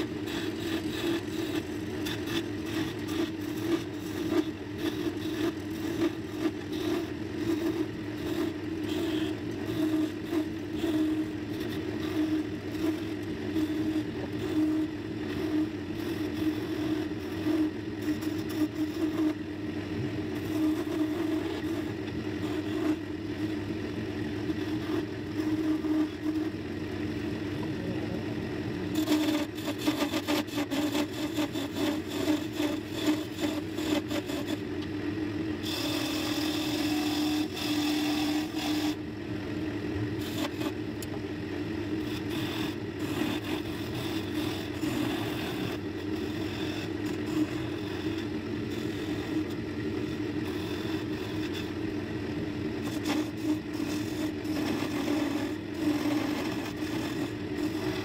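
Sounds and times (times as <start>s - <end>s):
chisel scraping spinning wood: 0.0s - 39.1s, 40.0s - 58.0s
wood lathe humming: 0.0s - 58.0s.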